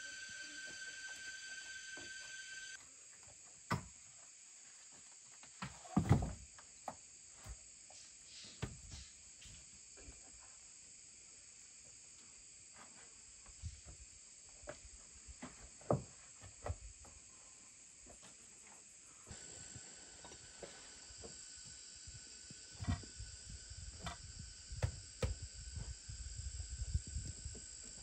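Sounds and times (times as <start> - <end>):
forest insects droning: 0.0 - 28.0.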